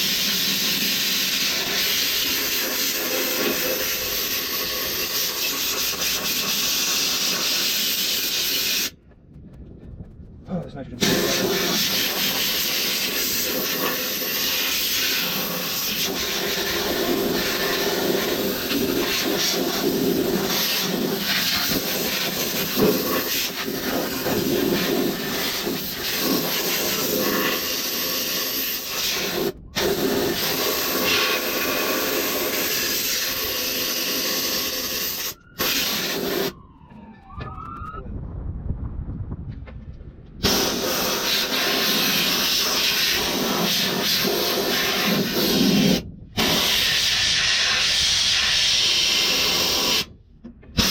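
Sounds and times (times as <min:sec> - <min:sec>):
compressed gas hissing from hose: 0:00.0 - 0:08.9, 0:11.0 - 0:36.6, 0:40.4 - 0:50.1.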